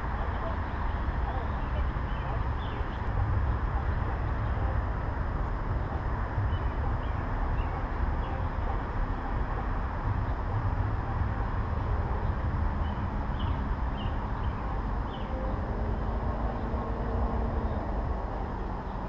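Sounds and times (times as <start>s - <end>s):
low fluctuating rumble: 0.0s - 19.0s.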